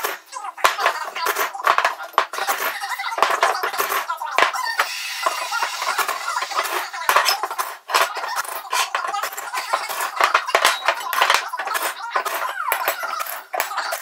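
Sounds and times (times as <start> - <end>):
metallic clinking and clattering: 0.0 - 14.0.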